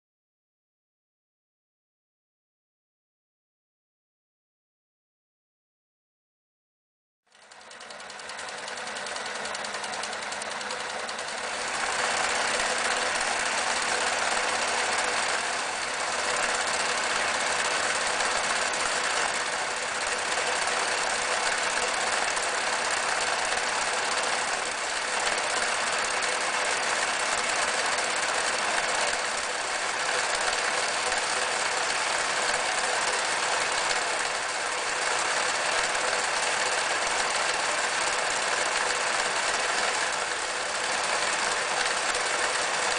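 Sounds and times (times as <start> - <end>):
electric sewing machine running: 7.3 - 42.9.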